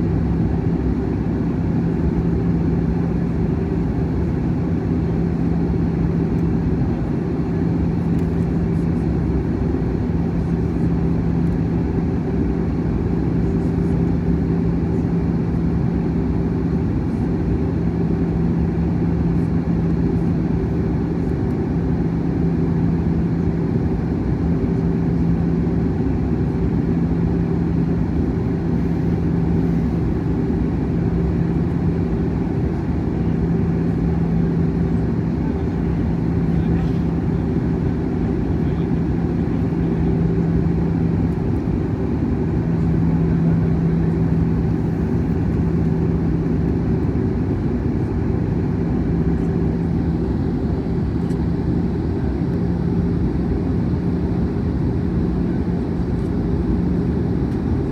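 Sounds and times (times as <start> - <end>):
airplane cabin engine drone: 0.0 - 57.9.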